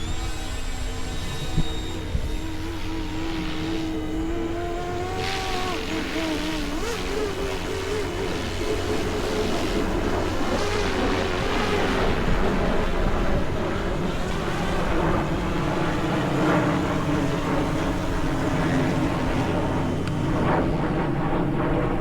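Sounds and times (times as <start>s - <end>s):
model helicopter motor whine: 0.0s - 22.0s.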